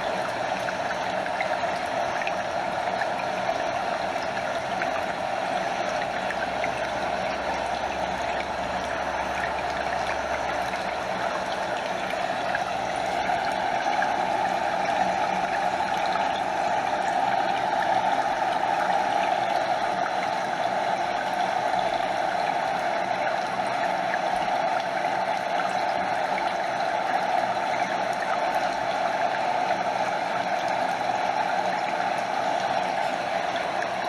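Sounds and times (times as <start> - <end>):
stream flowing over rocks: 0.0 - 34.0
water lapping and gurgling: 0.0 - 34.0.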